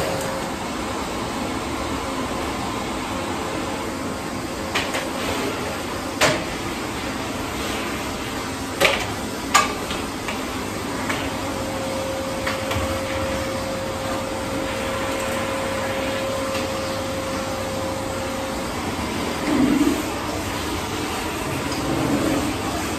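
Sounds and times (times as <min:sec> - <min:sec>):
vacuum cleaner on carpet: 0:00.0 - 0:22.9.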